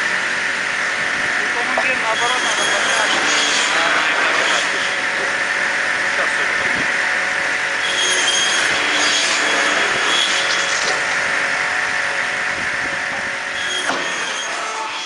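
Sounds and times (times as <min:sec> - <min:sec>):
saw line machinery din: 0:00.0 - 0:15.0.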